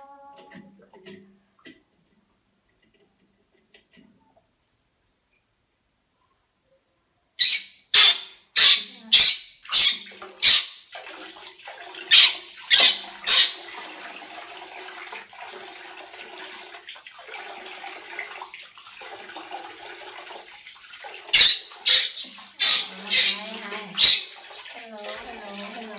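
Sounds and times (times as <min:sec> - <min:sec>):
water splashing in a sink: 0:00.0 - 0:04.4, 0:08.0 - 0:25.9.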